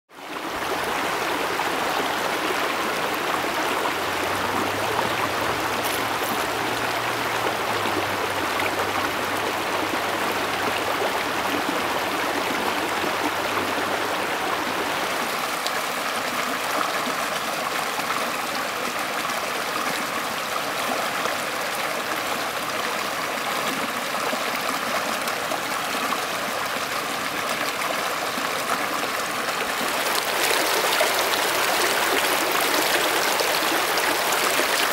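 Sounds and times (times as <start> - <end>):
creek water rushing over stones: 0.1 - 34.9.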